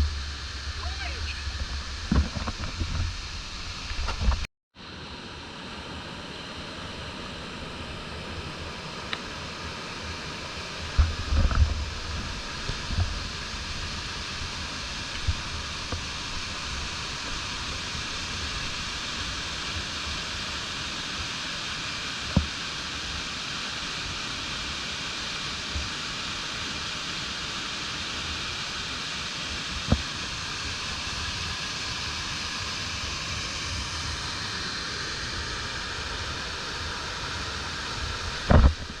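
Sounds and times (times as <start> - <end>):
stream water rushing: 0.1 - 39.0.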